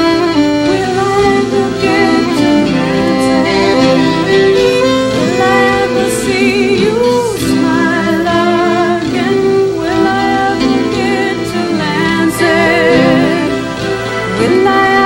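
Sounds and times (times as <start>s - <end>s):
acoustic guitar: 0.0s - 15.0s
fiddle melody with vibrato: 0.0s - 15.0s
keyboard: 0.0s - 15.0s.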